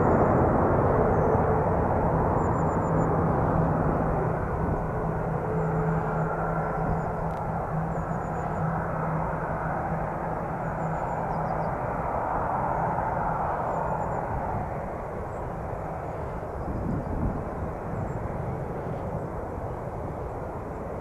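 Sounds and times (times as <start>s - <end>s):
jet engines running: 0.0s - 21.0s
low hum: 0.0s - 21.0s.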